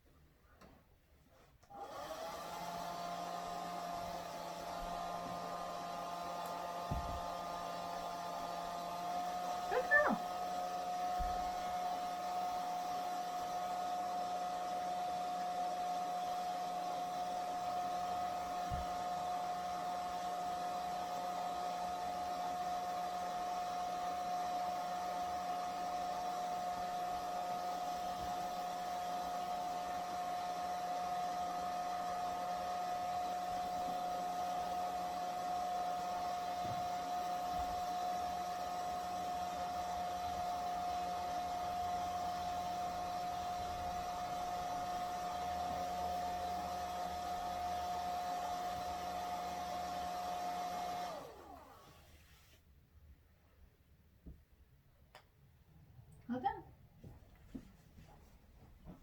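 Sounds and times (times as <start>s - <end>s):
hair dryer running: 1.6s - 52.4s.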